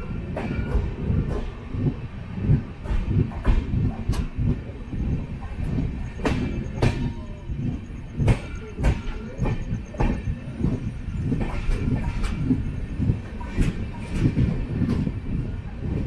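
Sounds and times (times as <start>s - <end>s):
train rumbling on rails: 0.0s - 16.0s
wheel clicks over rail joints: 0.0s - 16.0s.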